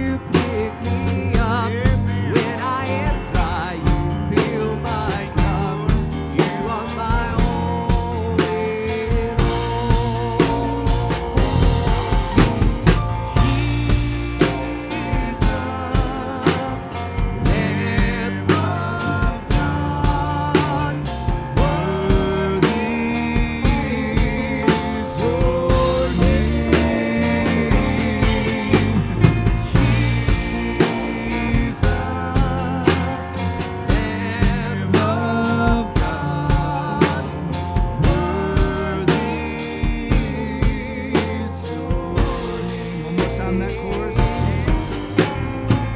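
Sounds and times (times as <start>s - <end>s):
drum kit beat: 0.0s - 45.9s
worship band music: 0.0s - 45.9s.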